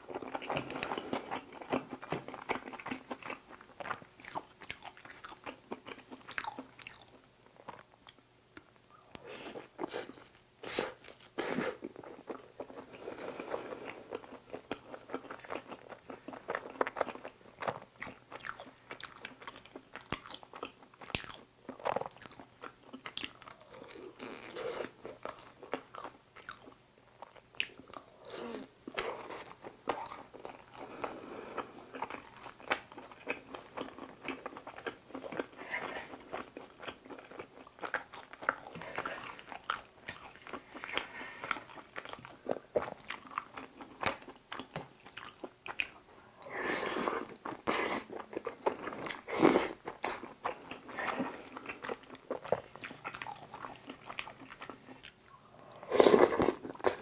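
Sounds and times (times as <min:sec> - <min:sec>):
close chewing: 0:00.0 - 0:08.2, 0:09.2 - 0:46.1, 0:46.9 - 0:57.0.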